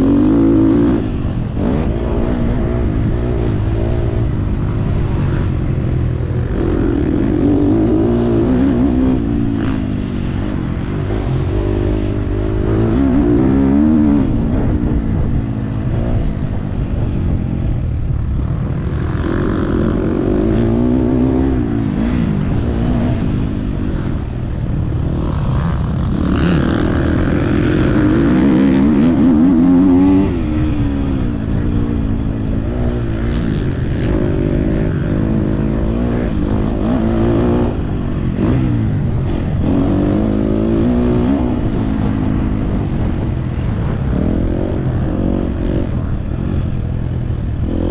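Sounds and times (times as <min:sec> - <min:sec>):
motocross bike engine revving: 0:00.0 - 0:16.8, 0:18.4 - 0:47.9.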